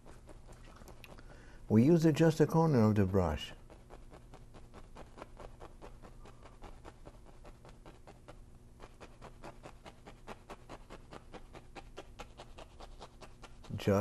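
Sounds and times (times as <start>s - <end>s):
paintbrush dabbing on canvas: 0.0s - 1.1s, 2.0s - 14.0s.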